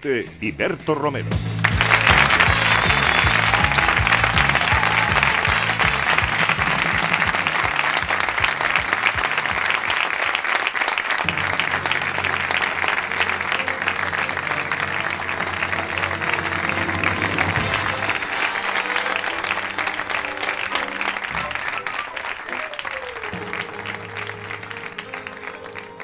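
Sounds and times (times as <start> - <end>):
theme music with bass line: 0.0 - 10.2, 11.2 - 26.0
audience applauding: 1.6 - 26.0.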